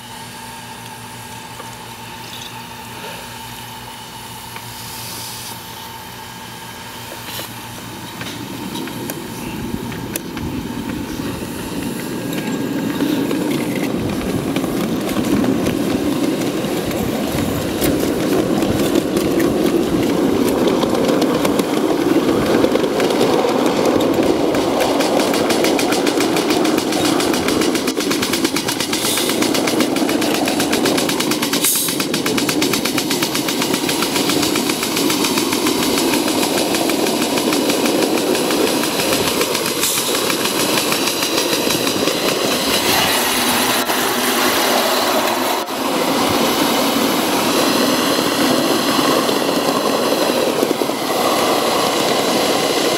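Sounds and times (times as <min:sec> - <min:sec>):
model steam locomotive chuffing: 0:00.0 - 0:52.9.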